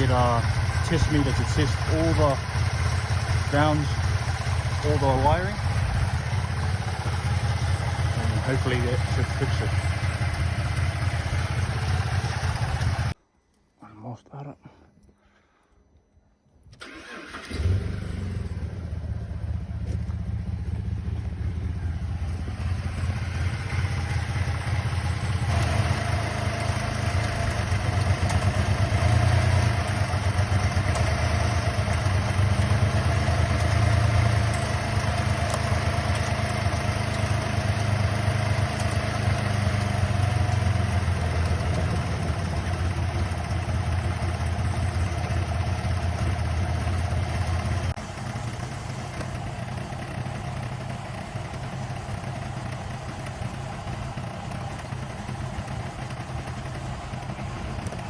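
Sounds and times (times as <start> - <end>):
car engine starting and idling: 0.0 - 13.2, 16.7 - 58.0.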